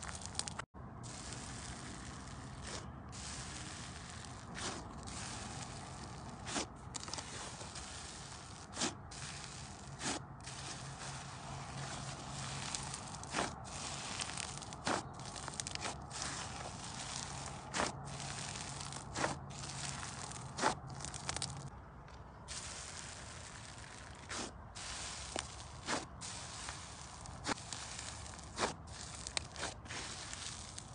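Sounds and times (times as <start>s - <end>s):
slime squishing by hand: 0.0s - 21.7s, 22.5s - 30.9s.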